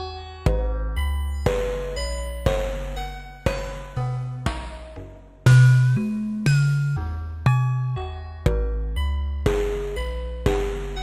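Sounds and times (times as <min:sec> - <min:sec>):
low bass tone: 0:00.0 - 0:11.0
pitched electronic synth notes: 0:00.5 - 0:11.0.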